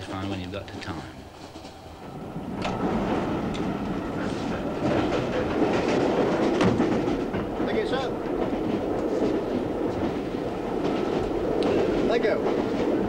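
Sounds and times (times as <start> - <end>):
rail joints clacking: 0.0 - 13.0
train wheels rumbling: 0.0 - 13.0.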